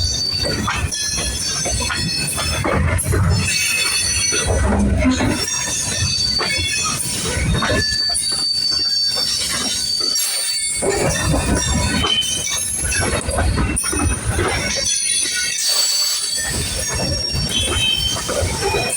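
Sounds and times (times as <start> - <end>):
train cars clanking: 0.0 - 18.9
train rumbling: 0.0 - 18.9
train wheels squealing: 0.0 - 18.9.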